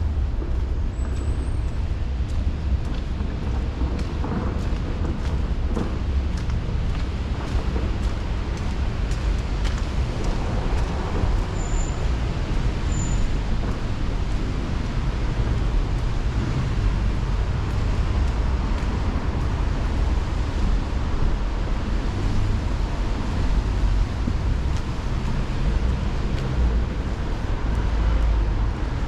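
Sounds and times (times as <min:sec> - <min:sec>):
road traffic on wet streets: 0:00.0 - 0:29.0
wind rumble on microphone: 0:00.0 - 0:29.0.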